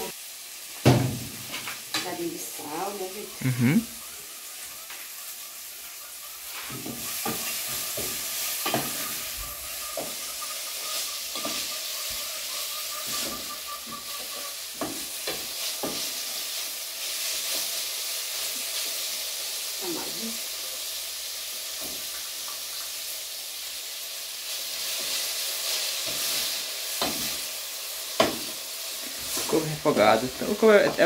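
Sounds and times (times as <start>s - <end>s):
greens sizzling in oil: 0.0s - 31.0s.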